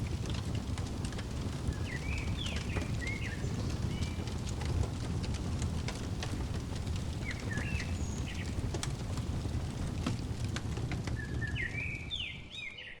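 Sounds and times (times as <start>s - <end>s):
wood fire crackling: 0.0s - 12.8s.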